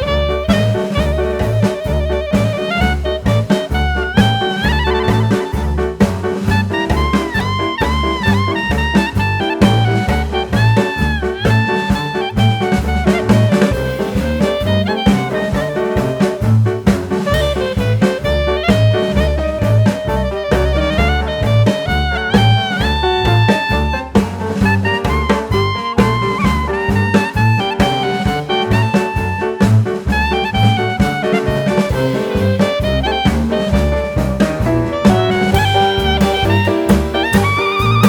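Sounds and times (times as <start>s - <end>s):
drum kit: 0.0s - 38.0s
jazz horns melody: 0.0s - 38.0s
pulsing bass line: 0.0s - 38.0s.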